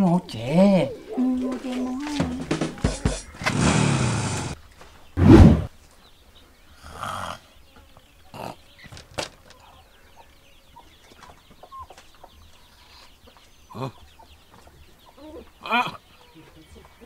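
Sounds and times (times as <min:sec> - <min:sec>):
chickens clucking: 0:00.0 - 0:05.1, 0:05.9 - 0:17.0.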